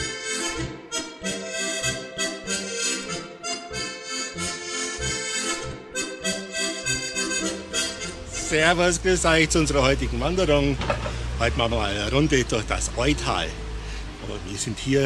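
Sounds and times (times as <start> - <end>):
accordion polka music: 0.0 - 15.0.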